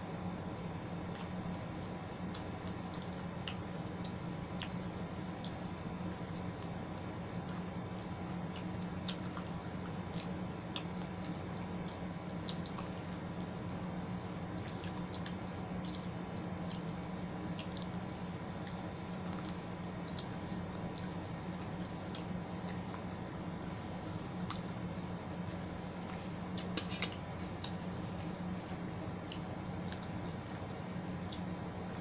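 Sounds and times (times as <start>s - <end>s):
steady low hum: 0.0s - 32.0s
wet squishy chewing: 1.1s - 6.8s, 7.4s - 32.0s.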